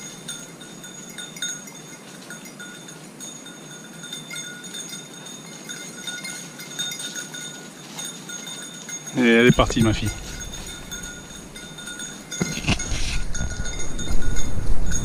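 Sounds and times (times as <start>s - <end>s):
dog's bell jingling: 0.0s - 15.0s.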